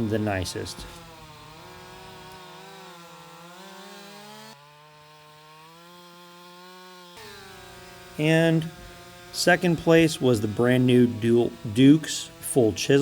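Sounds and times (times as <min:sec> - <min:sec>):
chainsaw cutting: 0:00.0 - 0:13.0.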